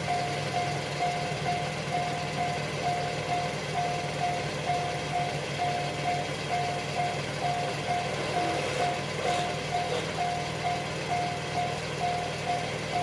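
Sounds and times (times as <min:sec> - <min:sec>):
level crossing alarm ding: 0:00.0 - 0:13.0.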